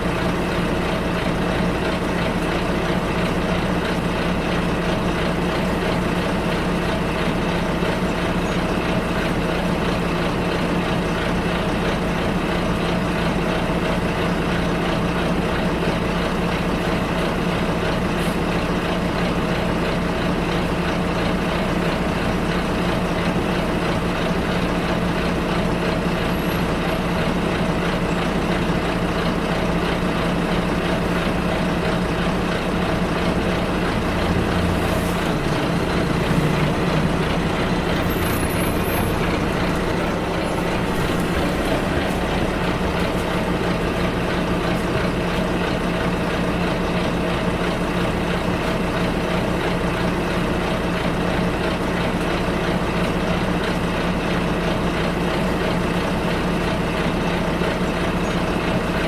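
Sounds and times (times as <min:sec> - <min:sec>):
bus engine hum: 0:00.0 - 0:59.0
road noise: 0:00.0 - 0:59.0.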